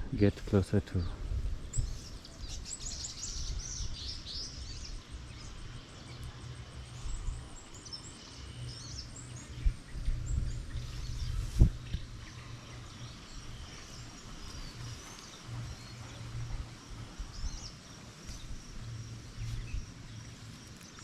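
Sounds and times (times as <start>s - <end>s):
wind rumble on microphone: 0.0s - 21.0s
small birds chirping: 0.1s - 21.0s.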